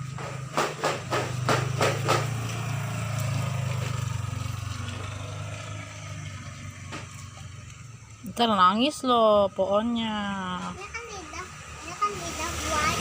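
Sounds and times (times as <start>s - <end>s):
motor engine running: 0.0s - 13.0s.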